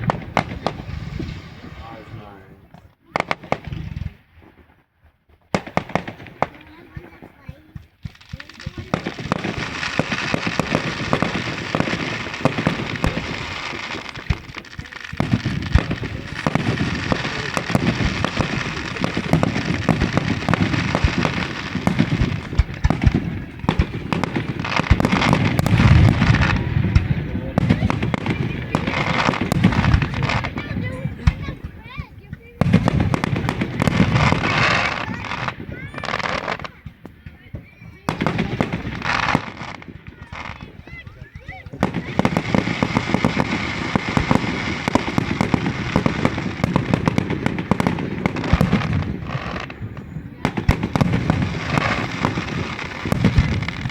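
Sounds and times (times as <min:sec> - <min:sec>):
fireworks popping and crackling: 0:00.0 - 0:53.9.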